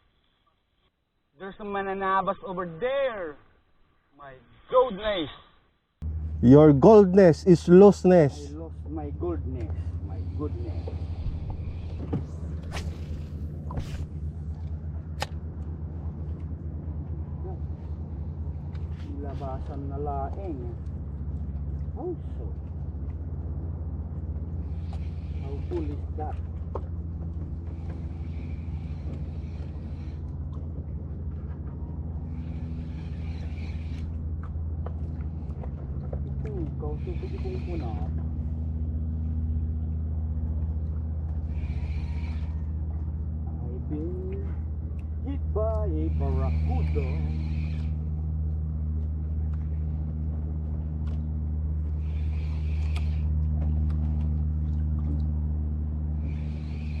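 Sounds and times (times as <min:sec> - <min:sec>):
boat engine droning: 0:06.0 - 0:57.0.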